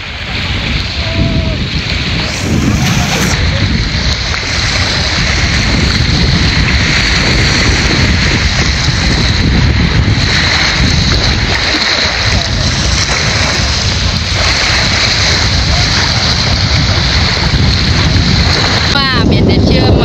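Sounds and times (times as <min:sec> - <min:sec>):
small waves on sandy beach: 0:00.0 - 0:20.0
wind on microphone: 0:00.0 - 0:20.0.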